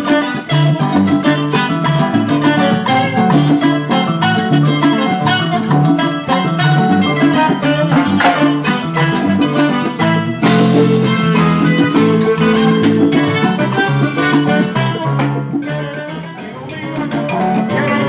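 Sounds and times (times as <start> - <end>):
live salsa band playing: 0.0 - 18.0.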